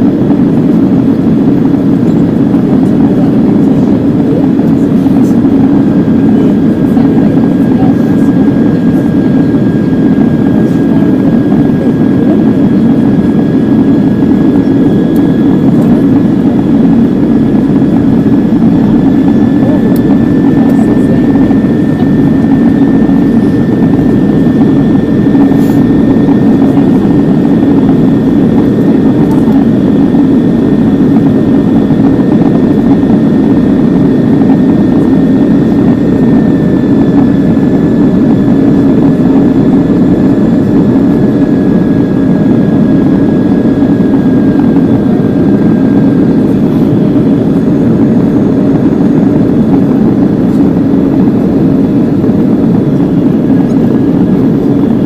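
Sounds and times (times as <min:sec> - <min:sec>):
high engine whine: 0:00.0 - 0:55.0
jet engine roar in cabin: 0:00.0 - 0:55.0.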